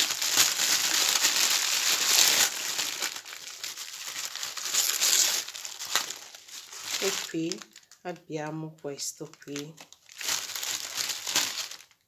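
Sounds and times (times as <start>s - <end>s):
plastic and paper crinkling: 0.0s - 8.0s, 9.2s - 12.0s.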